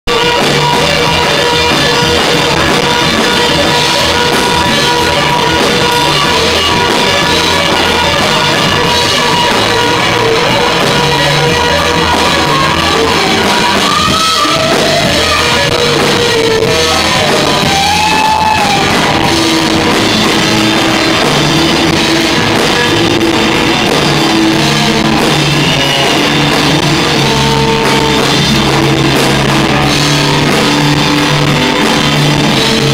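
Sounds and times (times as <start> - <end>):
drum kit: 0.0 - 32.9
electric guitars: 0.0 - 32.9.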